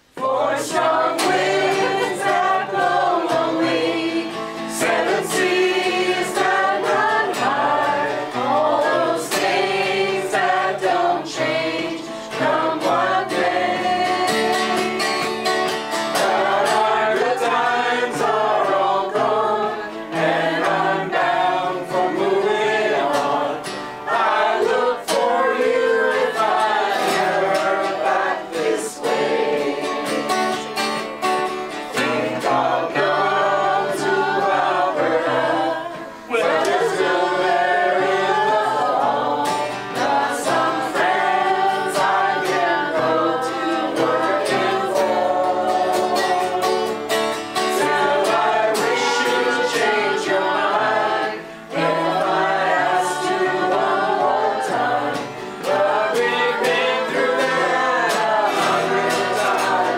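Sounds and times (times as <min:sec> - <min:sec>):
acoustic guitar: 0:00.0 - 0:59.9
mixed choir singing in harmony: 0:00.0 - 0:59.9.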